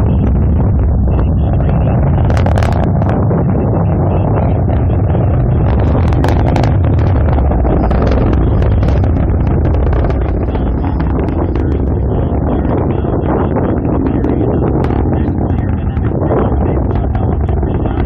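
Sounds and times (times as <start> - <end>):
distant rocket engine rumble: 0.0 - 18.0.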